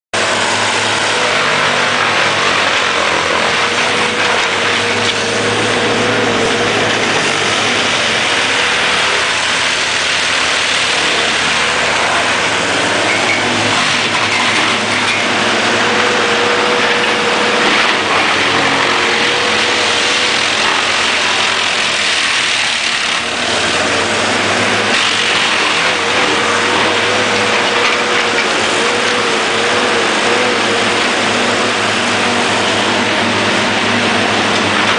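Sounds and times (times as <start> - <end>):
wood chipper chipping logs: 0.2 - 34.9.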